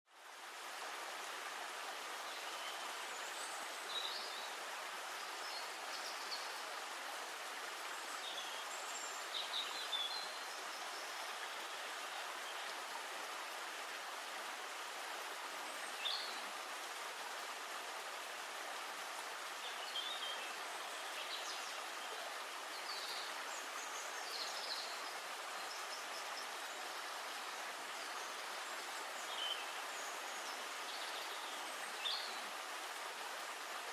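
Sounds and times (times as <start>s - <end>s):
forest ambience hiss: 0.1s - 33.9s.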